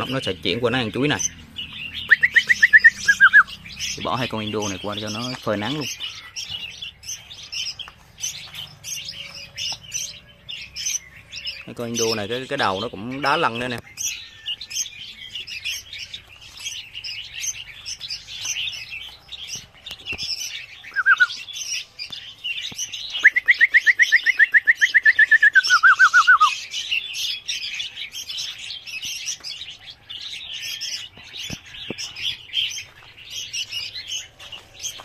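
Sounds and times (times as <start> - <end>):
bird rapid trill: 0.0 - 35.0
birds chirping: 0.0 - 35.0.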